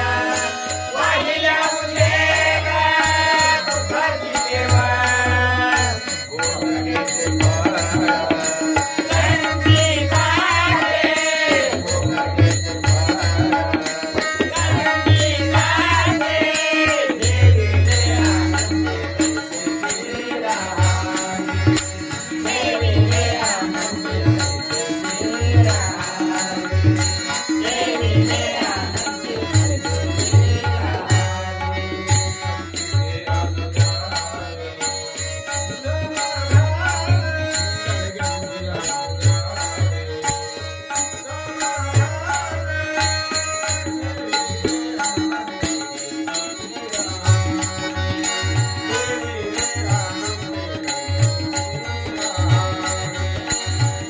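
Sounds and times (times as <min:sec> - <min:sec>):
jingling hand cymbals: 0:00.0 - 0:54.0
voices singing devotional song: 0:00.0 - 0:54.0.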